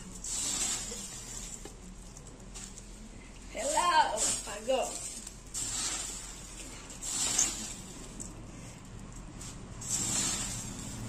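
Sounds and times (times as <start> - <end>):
puffed rice rustling and crunching: 0.0 - 11.0.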